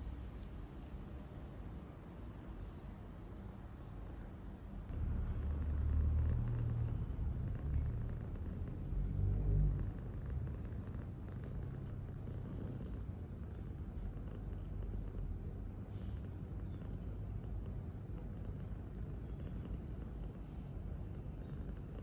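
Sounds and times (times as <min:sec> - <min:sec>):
cat purring rumble: 0:00.0 - 0:22.0.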